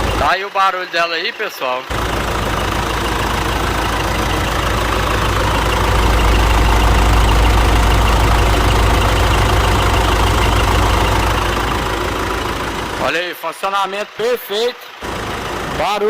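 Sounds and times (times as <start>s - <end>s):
diesel engine idling: 0.0s - 0.5s, 1.8s - 16.0s.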